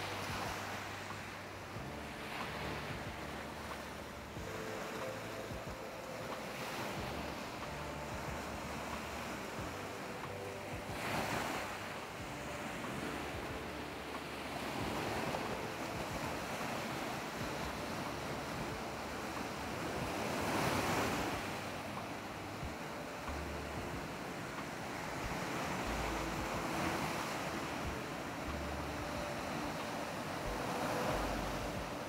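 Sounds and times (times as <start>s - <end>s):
sea waves breaking on beach: 0.0s - 32.0s.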